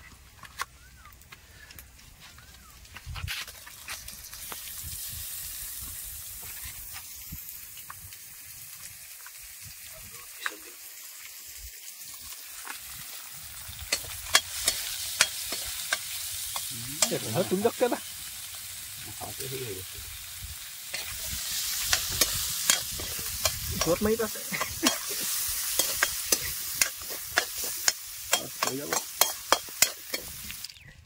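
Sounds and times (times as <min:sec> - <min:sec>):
hot oil sizzling: 0:03.4 - 0:30.8.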